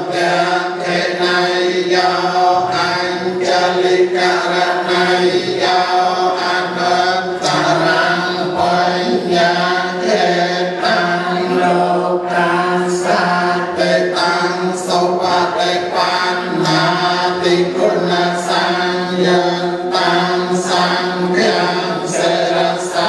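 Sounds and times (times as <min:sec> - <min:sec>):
many voices chanting: 0:00.0 - 0:23.0.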